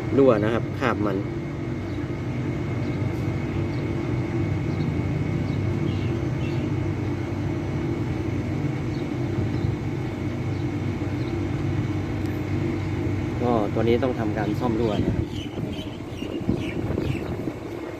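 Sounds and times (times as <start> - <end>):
low machine hum: 0.0 - 17.9.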